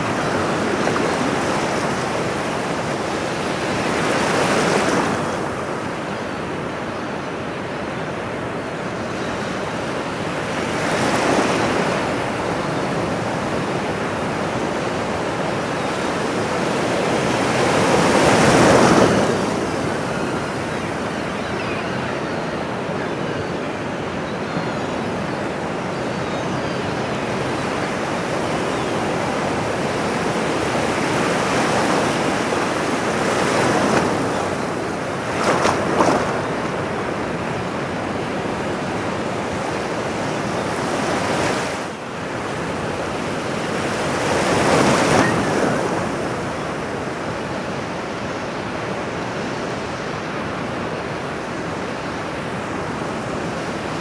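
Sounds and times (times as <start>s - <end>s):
ocean surf washing on shore: 0.0s - 6.7s, 8.6s - 21.7s, 27.4s - 54.0s.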